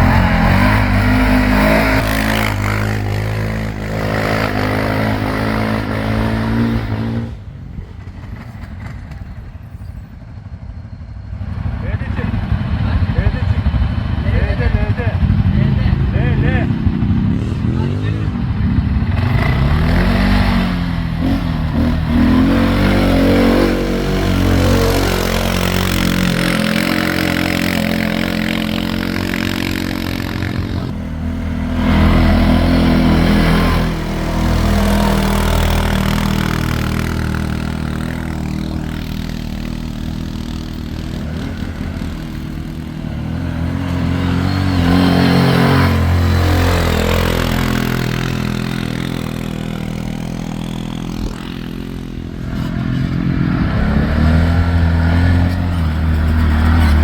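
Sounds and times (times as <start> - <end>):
quad bike engine revving: 0.0 - 9.5, 11.6 - 57.0.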